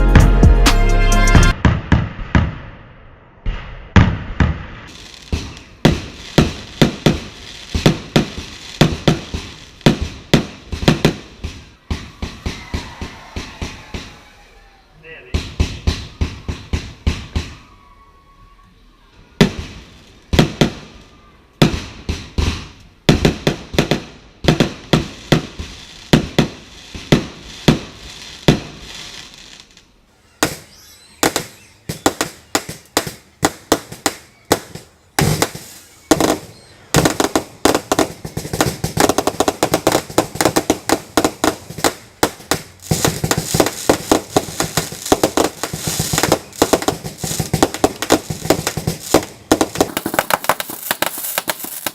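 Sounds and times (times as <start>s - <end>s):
fireworks bangs: 1.4s - 51.9s.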